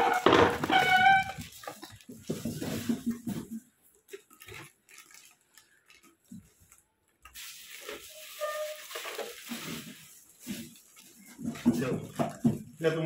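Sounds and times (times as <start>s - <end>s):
plastic bags crinkling: 0.0s - 13.0s
plastic packaging handled: 0.0s - 13.0s.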